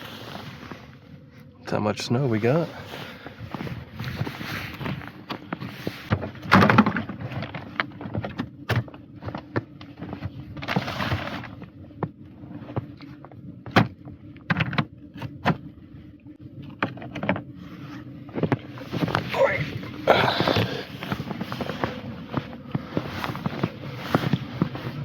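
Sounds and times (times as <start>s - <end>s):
rustling or scraping: 0.0s - 1.5s, 2.2s - 8.4s, 9.1s - 11.7s, 15.3s - 25.0s
low hum: 0.0s - 25.0s.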